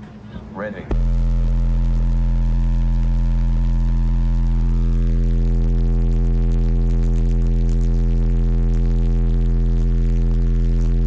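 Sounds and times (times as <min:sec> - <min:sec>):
sustained low bass tone: 0:00.9 - 0:11.0.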